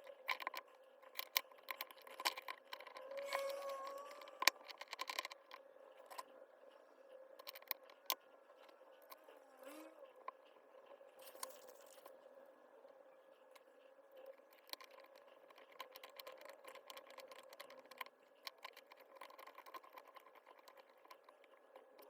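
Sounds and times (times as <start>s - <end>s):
faint steady hum: 0.0s - 22.0s
light ticks of parts: 0.0s - 22.0s.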